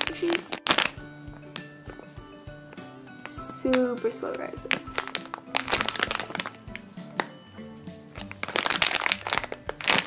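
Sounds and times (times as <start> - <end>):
plastic bag crinkling: 0.0 - 2.1, 3.3 - 7.4, 8.1 - 10.0
soft background music: 0.0 - 10.0.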